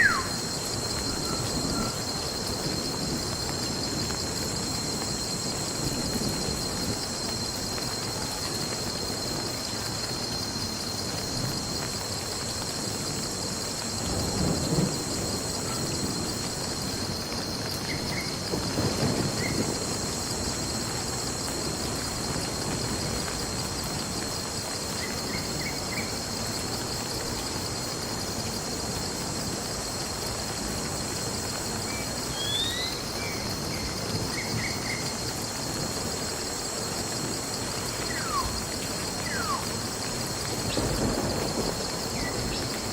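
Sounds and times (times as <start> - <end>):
low rolls of thunder: 0.0 - 10.0, 11.3 - 31.6, 33.3 - 42.9
steady rain: 0.0 - 42.9.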